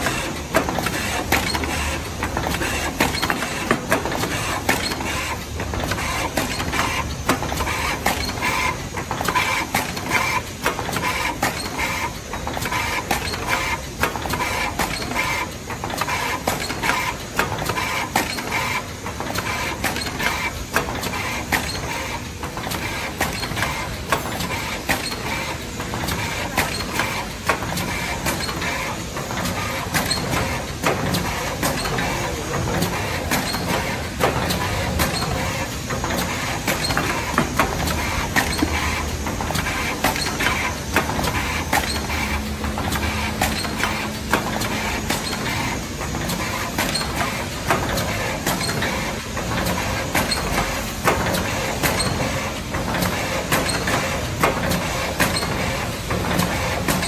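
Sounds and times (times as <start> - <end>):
machine clattering clicks and knocks: 0.0 - 57.0
steady mechanical noise: 0.0 - 57.0.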